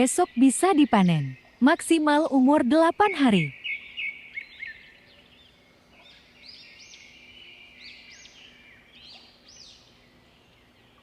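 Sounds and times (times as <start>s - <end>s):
faint steady hum: 0.0s - 11.0s
small birds chirping faintly: 0.0s - 11.0s.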